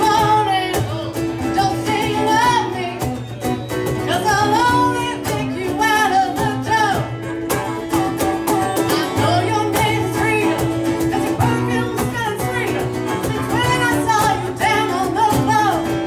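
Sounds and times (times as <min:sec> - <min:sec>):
woman singing: 0:00.0 - 0:07.3, 0:08.1 - 0:16.0
drum kit: 0:00.0 - 0:16.0
strummed acoustic guitars: 0:00.0 - 0:16.0.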